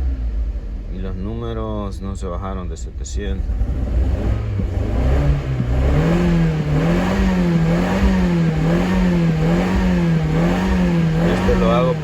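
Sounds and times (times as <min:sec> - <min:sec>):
car engine at raised revs: 0:00.0 - 0:12.0
engine misfiring: 0:00.0 - 0:12.0.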